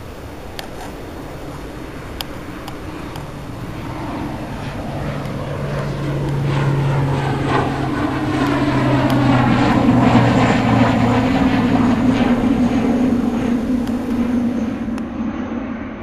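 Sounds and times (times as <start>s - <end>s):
propeller aircraft engine drone: 0.0s - 16.0s.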